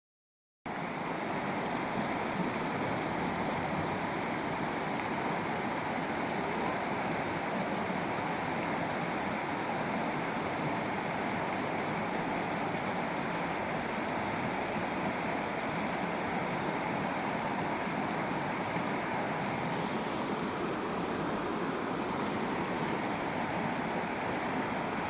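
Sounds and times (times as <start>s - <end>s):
river water rushing over rocks: 0.7s - 25.0s.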